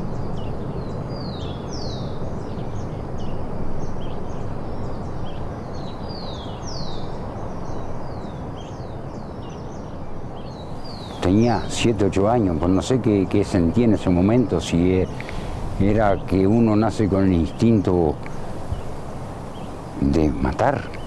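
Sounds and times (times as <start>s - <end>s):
low background noise: 0.0s - 21.0s
small birds chirping: 0.0s - 21.0s.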